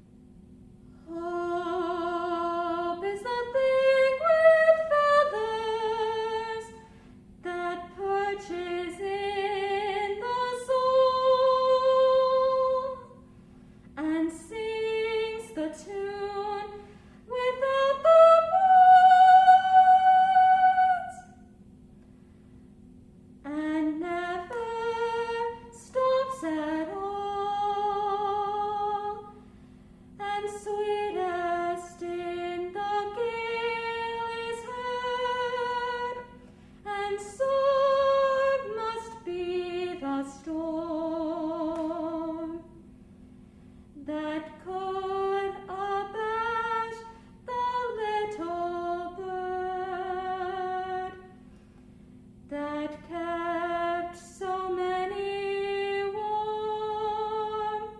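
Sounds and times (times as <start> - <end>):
woman singing with vibrato: 1.0 - 13.2, 14.0 - 21.4, 23.4 - 29.4, 30.2 - 42.8, 44.0 - 51.4, 52.5 - 57.9.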